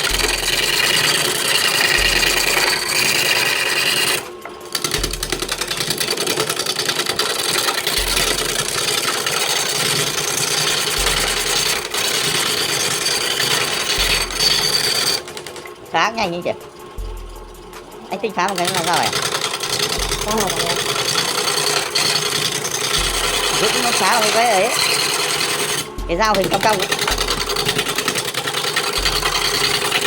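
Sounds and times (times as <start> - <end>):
lathe tool scraping wood: 0.0 - 30.0.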